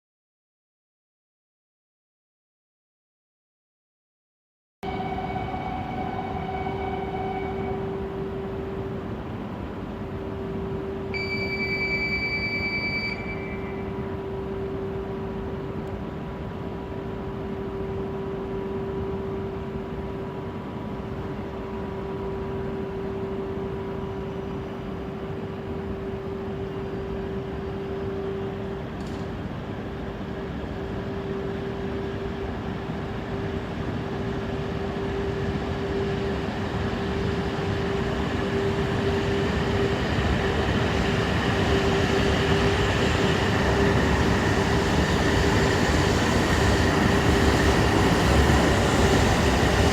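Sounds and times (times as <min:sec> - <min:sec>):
train electric hum: 0:04.8 - 0:49.9
train pulling away: 0:04.8 - 0:49.9.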